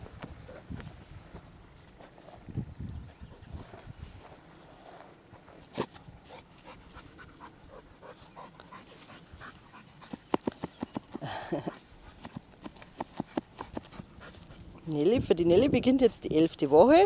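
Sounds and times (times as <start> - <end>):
dogs snuffling at the ground: 0.0 - 17.0.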